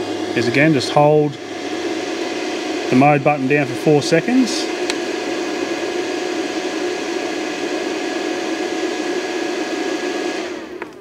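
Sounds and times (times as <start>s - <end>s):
battery charger cooling fan hum: 0.0s - 11.0s.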